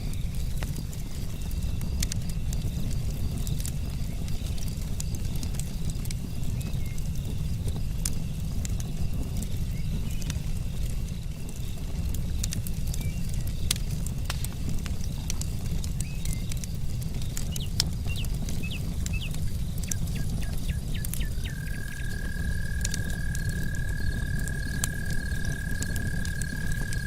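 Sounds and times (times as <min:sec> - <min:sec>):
campfire crackling and popping: 0:00.0 - 0:27.0
flames rumbling: 0:00.0 - 0:27.0.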